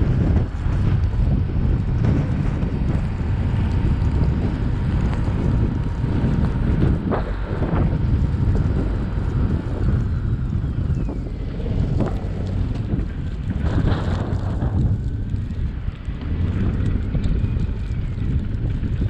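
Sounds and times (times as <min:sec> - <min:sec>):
car engine: 0:00.0 - 0:19.0
tyre noise: 0:00.0 - 0:19.0
wind noise: 0:00.0 - 0:19.0.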